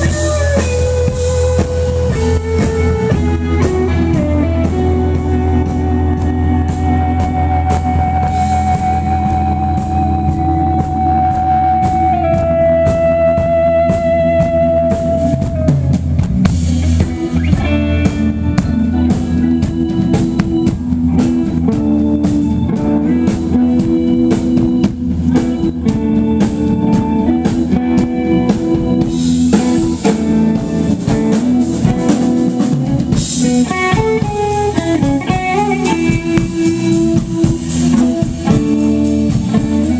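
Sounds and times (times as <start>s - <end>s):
blues-rock band playing: 0.0s - 39.9s
drums keeping a steady beat: 0.0s - 39.9s.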